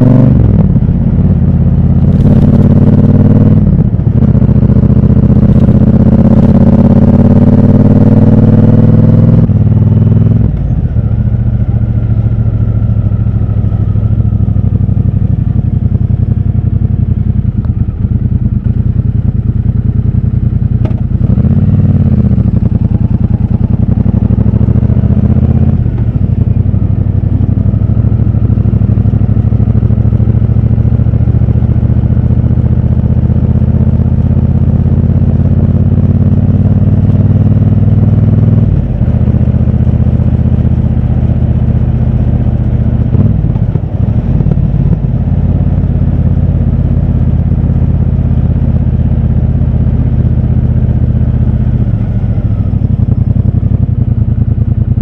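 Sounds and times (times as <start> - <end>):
city traffic: 0.0 - 55.0
motorcycle engine running: 0.0 - 55.0.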